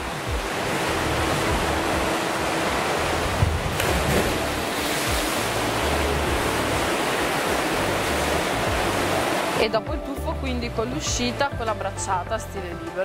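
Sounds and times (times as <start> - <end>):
pool water splashing: 0.0 - 11.4
background music: 0.0 - 13.0.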